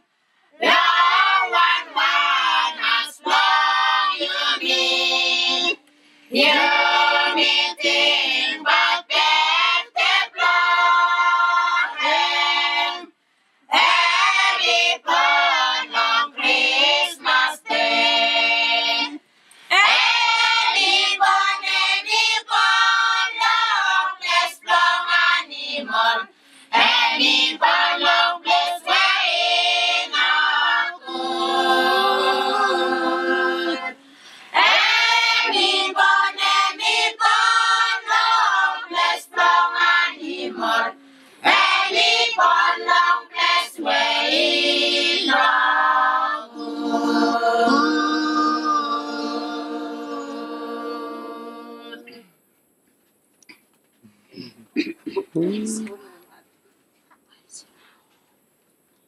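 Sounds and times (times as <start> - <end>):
group singing a carol unaccompanied: 0.0 - 52.3.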